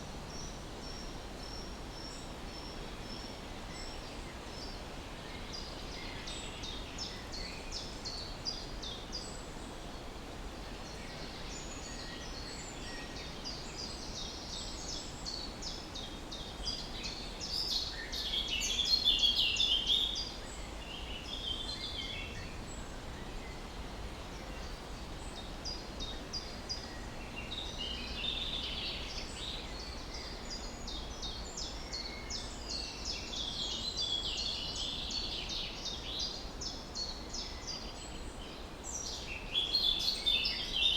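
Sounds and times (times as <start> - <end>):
low background noise: 0.0 - 40.9.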